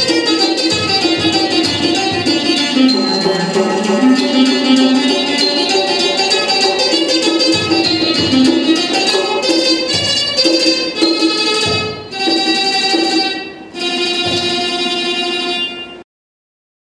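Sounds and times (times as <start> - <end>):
plucked zither melody: 0.0 - 16.0.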